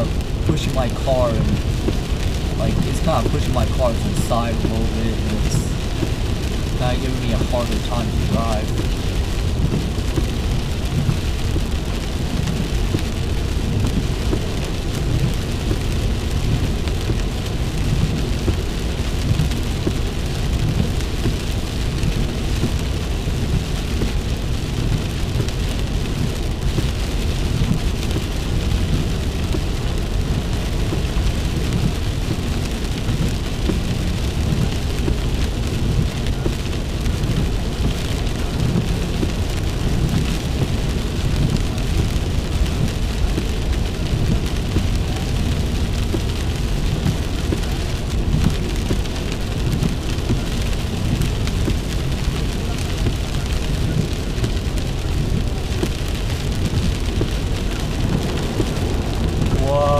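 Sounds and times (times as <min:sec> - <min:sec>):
low road rumble: 0:00.0 - 0:59.9
rain on car: 0:00.0 - 0:59.9.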